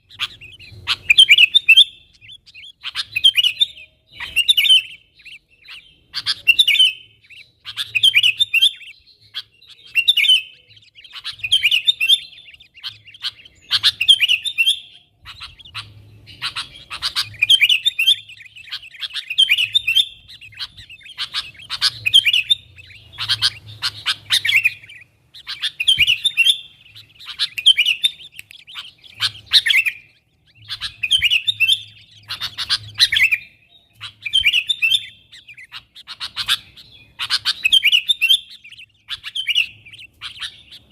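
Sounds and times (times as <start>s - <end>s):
bulbul chattering calls: 0.0s - 40.9s.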